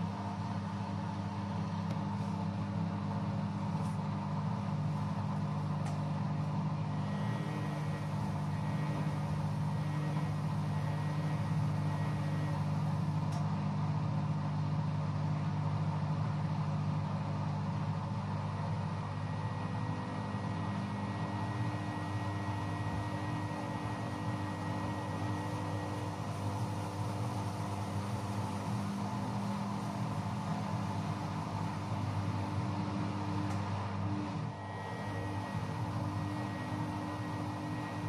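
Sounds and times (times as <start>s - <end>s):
washing machine drum humming: 0.0s - 38.0s.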